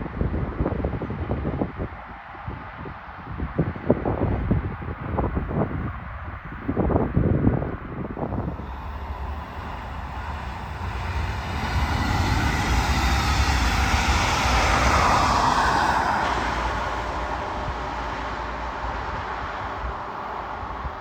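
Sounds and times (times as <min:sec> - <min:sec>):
train passing on track: 0:00.0 - 0:21.0.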